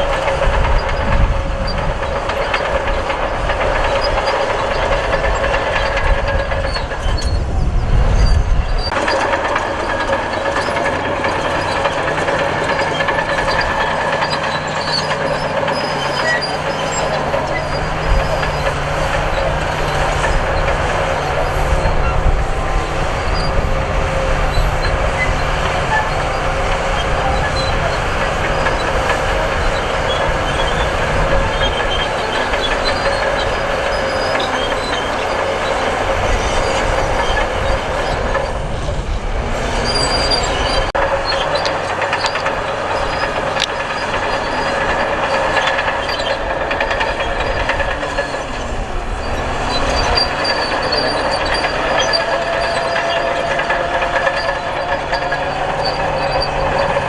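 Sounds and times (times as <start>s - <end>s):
bulldozer engine running: 0.0s - 57.0s.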